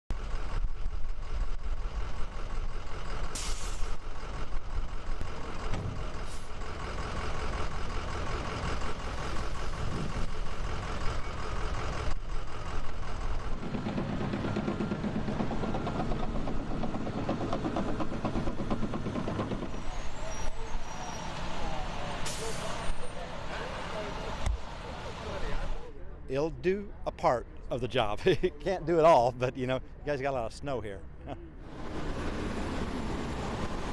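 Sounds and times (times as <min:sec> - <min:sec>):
diesel trucks running: 0:00.1 - 0:33.9.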